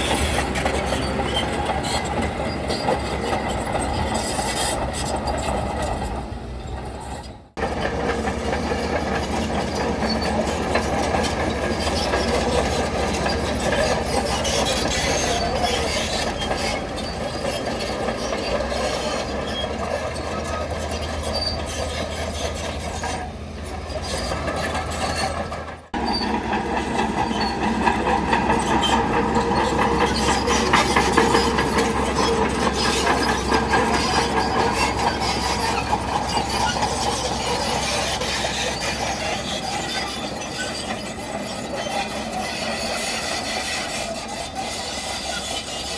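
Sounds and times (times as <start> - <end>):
diesel engine running: 0.0 - 45.9
steel tracks clanking and squealing: 0.0 - 45.9.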